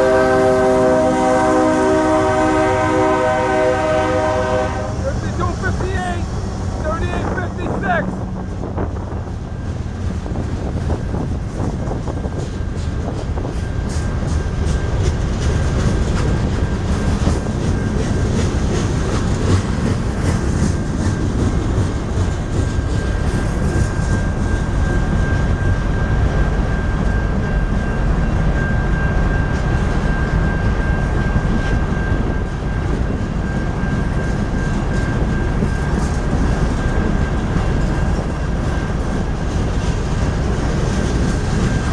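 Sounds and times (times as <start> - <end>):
freight train wheels clattering: 0.0 - 41.9.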